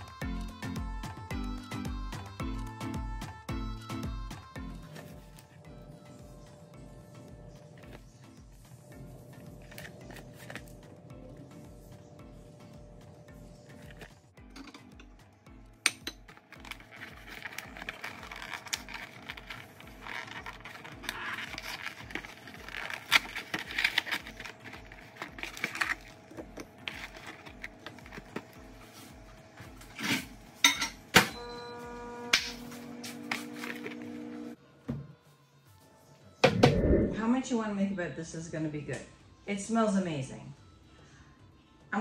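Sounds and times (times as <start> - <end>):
faint background music: 0.0 - 42.0.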